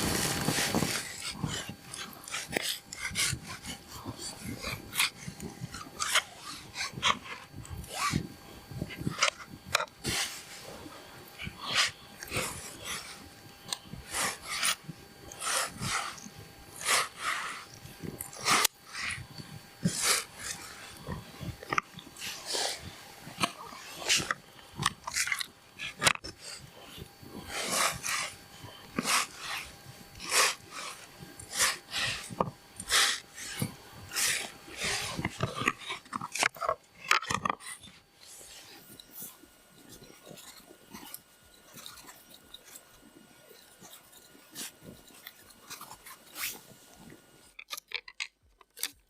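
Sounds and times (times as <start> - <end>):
animal breathing and sniffing: 0.0 - 47.6
rasping scrape strokes: 0.0 - 47.6.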